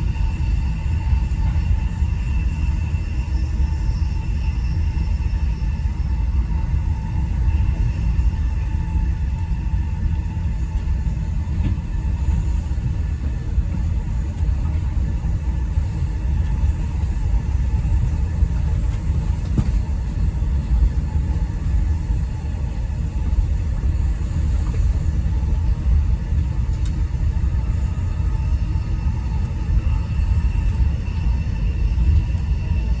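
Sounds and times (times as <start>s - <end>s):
electric train rumbling: 0.0s - 33.0s.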